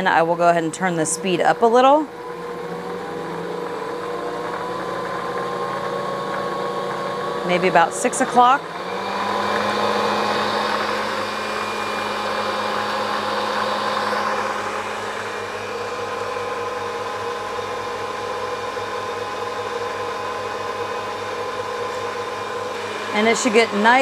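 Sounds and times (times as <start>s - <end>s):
stand mixer motor humming: 0.0s - 24.0s.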